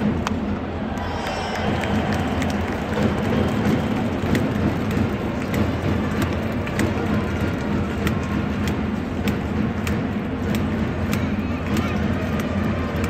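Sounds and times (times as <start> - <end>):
crowd voices din: 0.0 - 13.0
sharp claps: 0.1 - 13.0.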